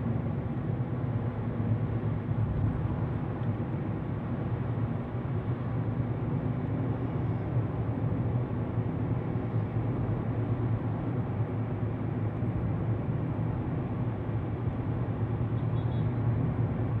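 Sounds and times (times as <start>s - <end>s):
car engine and tyre noise inside: 0.0s - 17.0s.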